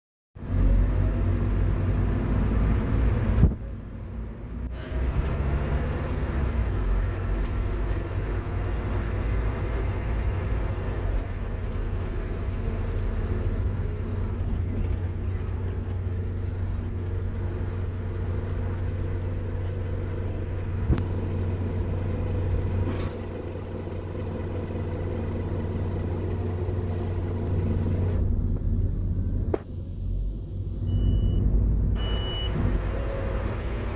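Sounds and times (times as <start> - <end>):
bus engine droning: 0.4 - 33.9.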